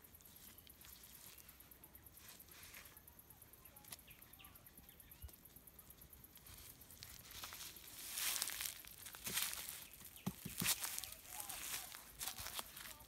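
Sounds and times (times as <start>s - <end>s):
soft bird chirps: 0.0s - 13.0s.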